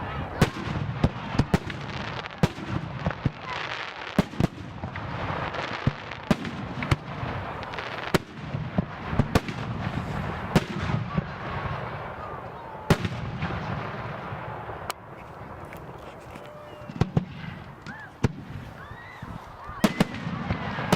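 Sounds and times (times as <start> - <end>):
firework crackle and rumble: 0.0 - 20.9.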